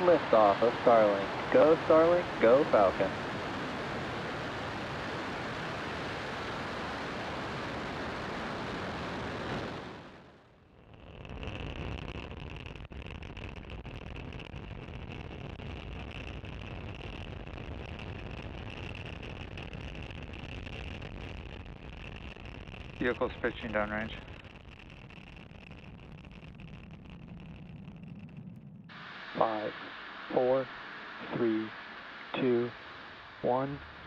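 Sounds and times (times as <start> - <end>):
rocket engines roaring: 0.0 - 10.6, 16.9 - 34.0
rocket rumble with high whine: 0.0 - 34.0.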